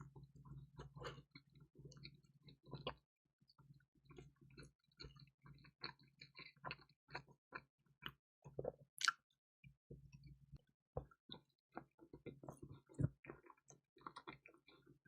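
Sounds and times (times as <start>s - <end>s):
chewing crispy pizza: 0.0s - 9.2s, 11.1s - 15.0s.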